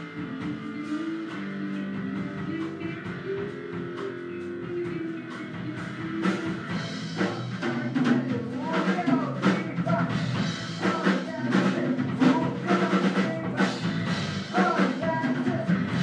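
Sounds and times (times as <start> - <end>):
drum kit: 0.0 - 16.0
electric guitar: 0.0 - 16.0
keyboard playing: 0.0 - 16.0.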